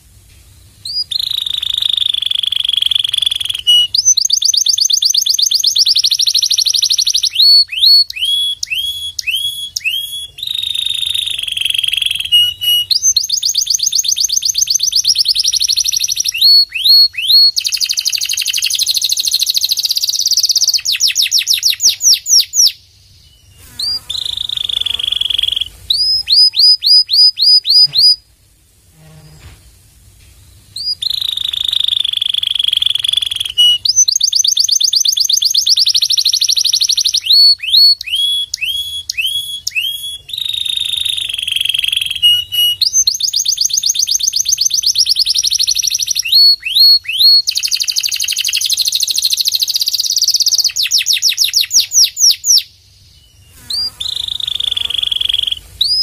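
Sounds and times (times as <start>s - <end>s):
canary singing: 0.8s - 28.3s, 30.7s - 56.0s.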